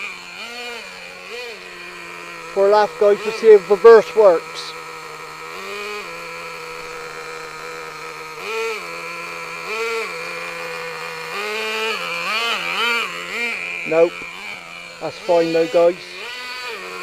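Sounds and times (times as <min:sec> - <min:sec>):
small nitro engine idling and revving: 0:00.0 - 0:17.0.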